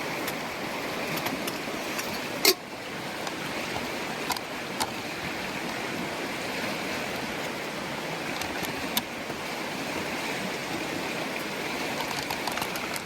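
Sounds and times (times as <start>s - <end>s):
flowing river rushing: 0.0s - 13.0s.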